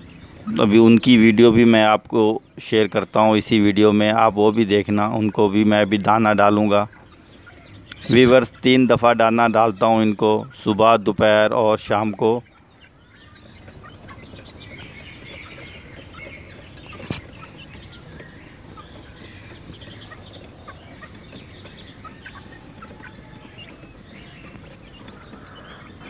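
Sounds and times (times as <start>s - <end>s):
hens pecking at grain: 0.3s - 26.0s
hens clucking softly: 0.4s - 26.0s.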